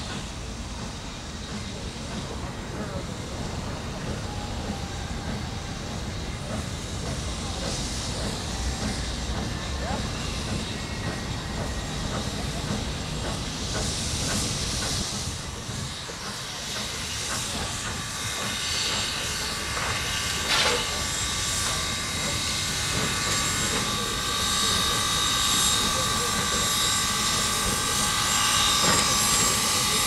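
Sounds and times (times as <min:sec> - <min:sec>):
steam hissing: 0:00.0 - 0:30.0
steam locomotive rolling: 0:00.0 - 0:30.0.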